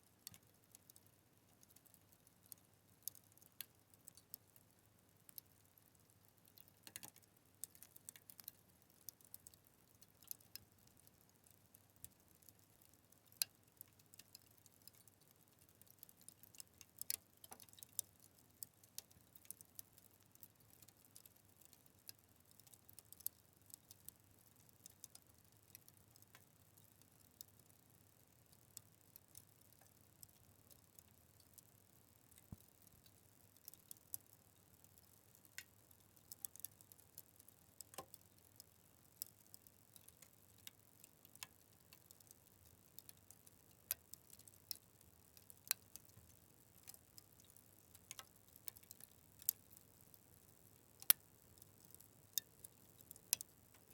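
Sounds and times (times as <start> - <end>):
faint steady hiss: 0.0 - 53.9
wood fire crackling: 0.2 - 4.6, 5.2 - 53.9.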